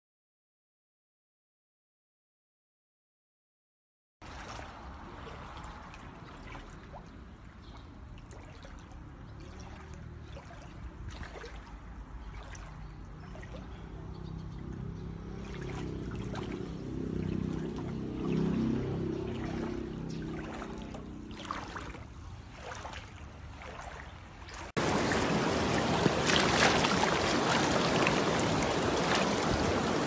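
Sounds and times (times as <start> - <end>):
floodwater running and lapping: 4.2 - 30.0
small splashes and clicks: 4.2 - 30.0.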